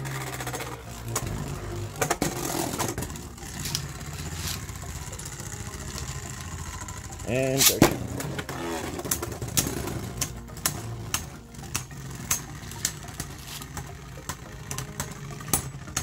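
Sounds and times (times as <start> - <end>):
spinning tops clacking: 0.0 - 16.0
spinning tops whirring: 0.0 - 16.0.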